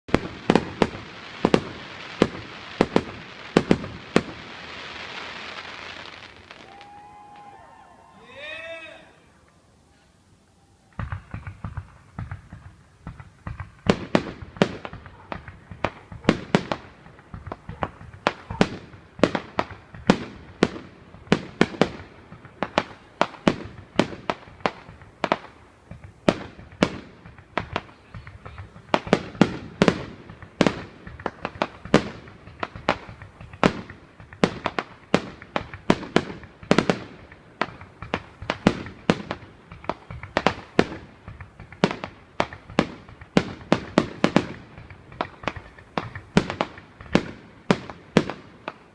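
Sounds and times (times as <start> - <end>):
fireworks banging: 0.1 - 7.7, 10.9 - 48.9.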